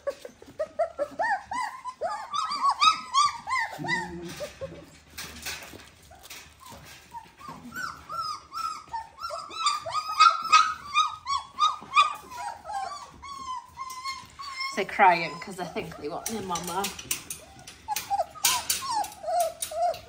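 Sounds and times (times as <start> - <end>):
puppies crying and squealing: 0.0 - 20.0.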